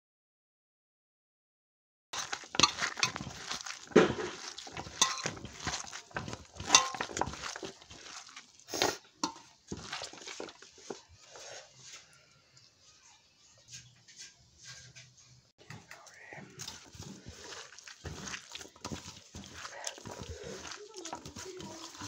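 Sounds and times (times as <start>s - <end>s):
hand knocking and scraping metal bowl: 2.2s - 12.0s, 13.7s - 22.0s.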